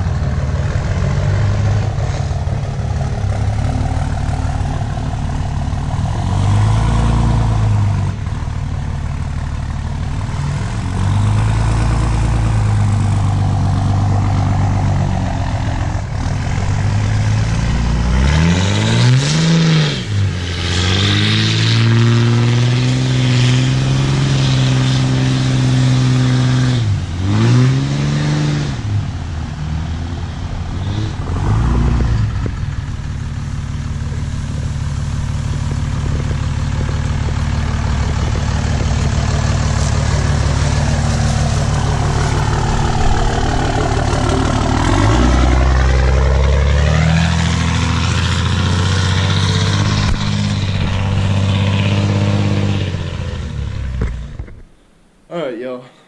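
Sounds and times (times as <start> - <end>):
diesel truck engine revving: 0.0 - 54.5.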